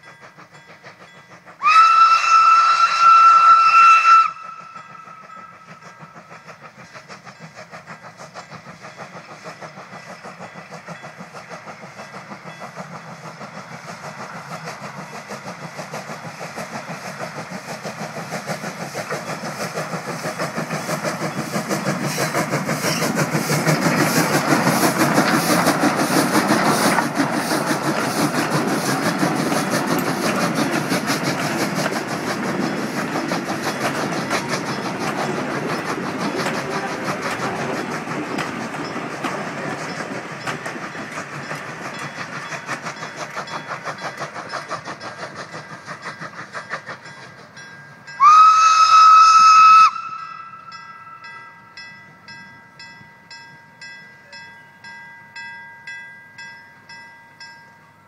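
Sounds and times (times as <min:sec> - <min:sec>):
steam locomotive exhaust beating: 0:00.0 - 0:58.0.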